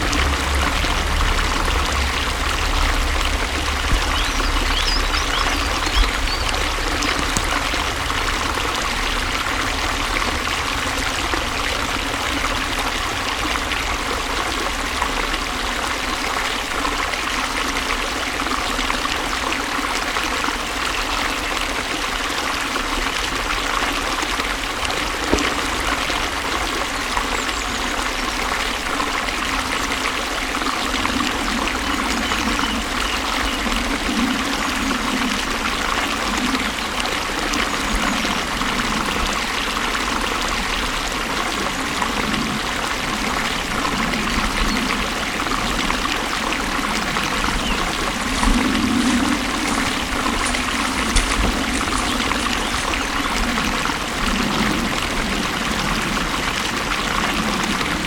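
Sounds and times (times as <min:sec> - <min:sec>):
small water splashes: 0:00.0 - 0:58.0
stream water flowing: 0:00.0 - 0:58.0.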